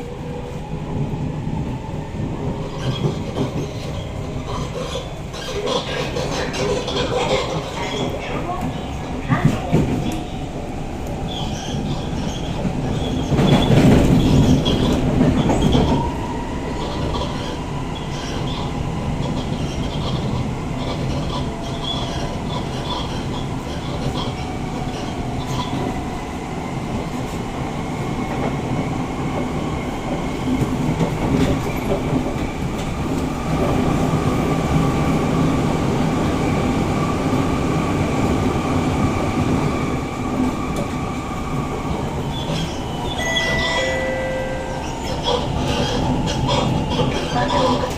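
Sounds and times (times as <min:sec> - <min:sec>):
train wheel and rail noise: 0:00.0 - 0:47.9.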